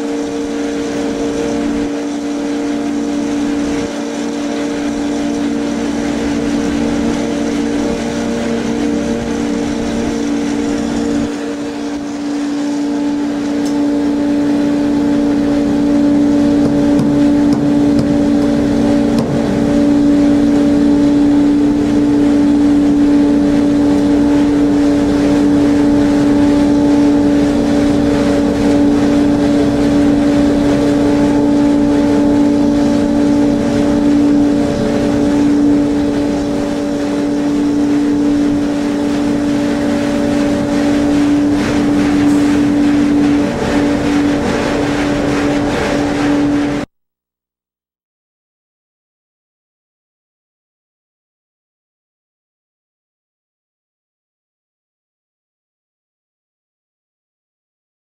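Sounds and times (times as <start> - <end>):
auger machine humming: 0.0 - 46.9.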